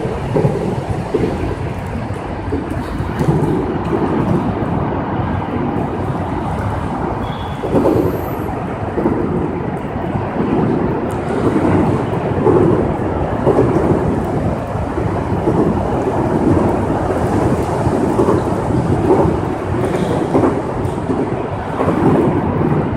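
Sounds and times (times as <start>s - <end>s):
heavy rain: 0.0s - 22.9s.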